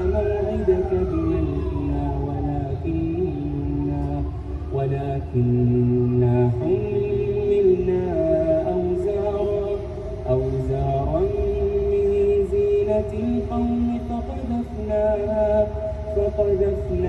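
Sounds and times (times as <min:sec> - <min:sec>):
person chanting a recitation: 0:00.0 - 0:17.0.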